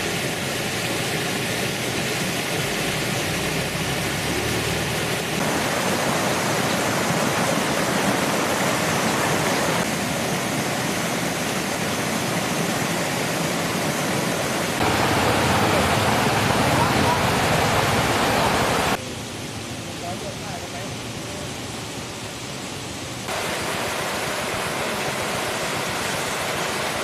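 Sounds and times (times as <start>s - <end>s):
floodwater rushing: 0.0s - 27.0s.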